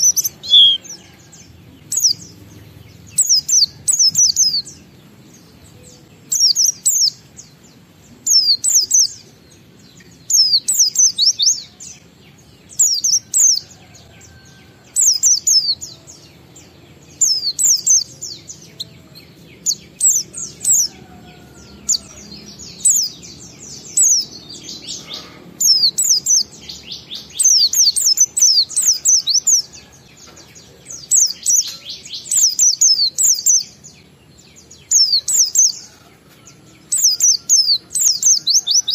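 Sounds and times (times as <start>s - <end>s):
bird singing rapid high chirps: 0.0s - 1.1s, 1.8s - 13.8s, 14.9s - 21.0s, 21.8s - 29.8s, 30.8s - 36.0s, 36.8s - 38.9s.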